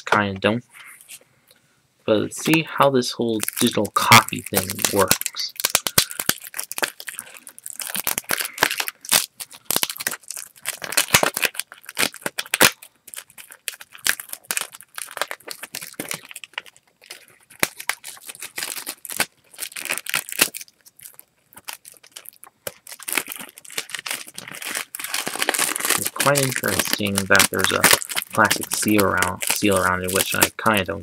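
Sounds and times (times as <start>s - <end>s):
plastic wrapping crinkling and tearing: 3.3s - 31.0s.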